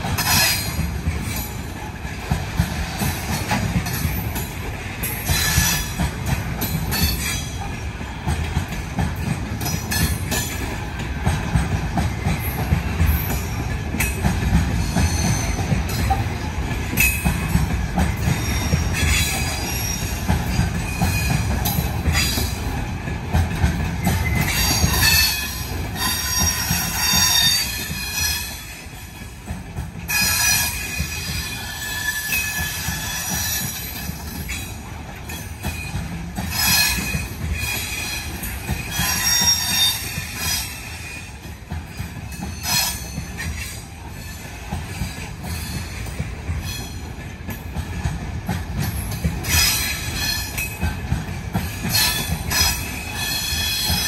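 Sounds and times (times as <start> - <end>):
train clatter: 0.0 - 54.0
train wheels rumbling on rails: 0.0 - 54.0.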